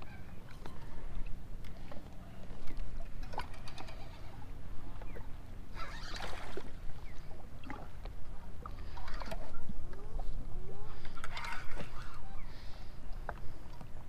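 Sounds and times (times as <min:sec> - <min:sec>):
low engine rumble: 0:00.0 - 0:14.0
water sloshing against hull: 0:00.0 - 0:14.0.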